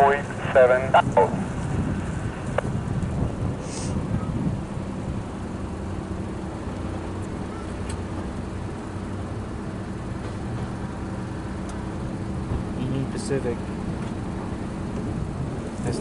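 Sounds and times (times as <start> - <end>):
diesel locomotive engine drone: 0.0 - 16.0
train rumble: 0.0 - 16.0.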